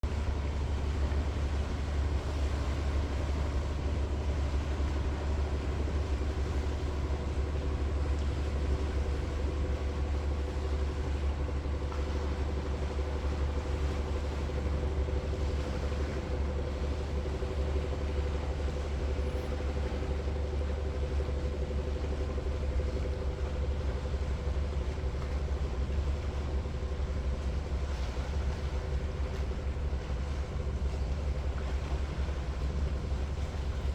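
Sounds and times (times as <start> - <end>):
boat engine rumbling: 0.0 - 33.9.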